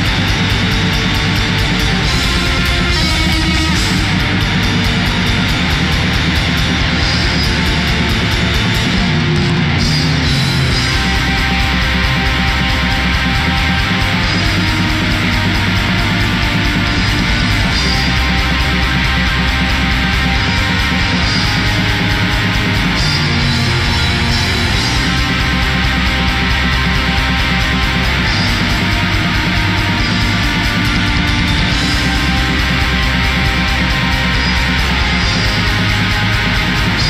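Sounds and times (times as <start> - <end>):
heavy metal song: 0.0 - 37.0.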